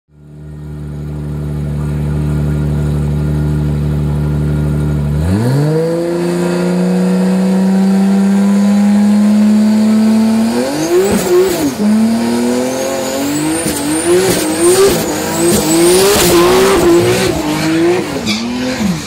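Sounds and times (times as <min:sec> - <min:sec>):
car engine revving: 0:00.2 - 0:19.0.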